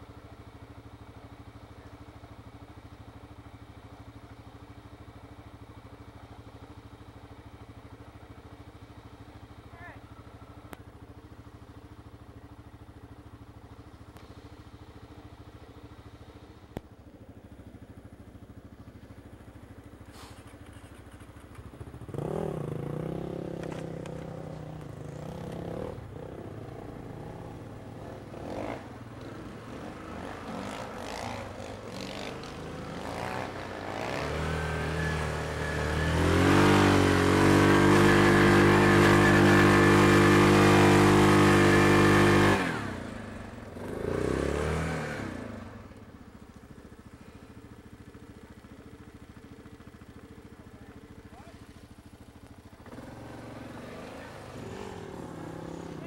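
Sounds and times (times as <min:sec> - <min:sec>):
quad bike engine idling and revving: 0:00.0 - 0:56.0.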